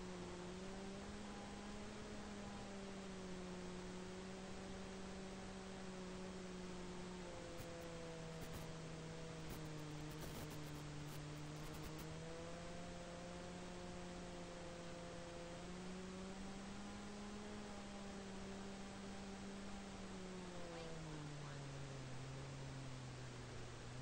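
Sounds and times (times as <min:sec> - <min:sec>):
electric motor propeller drone: 0:00.0 - 0:24.0.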